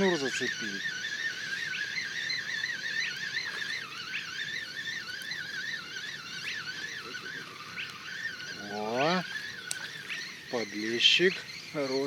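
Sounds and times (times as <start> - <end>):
bird upward-sweeping whistles: 0.0 - 12.0
wavering high trill: 0.0 - 12.0.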